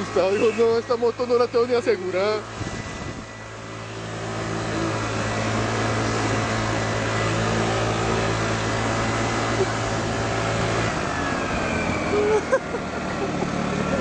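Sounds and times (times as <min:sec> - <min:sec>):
scooter engine running: 0:00.0 - 0:14.0
wind and road noise: 0:00.0 - 0:14.0.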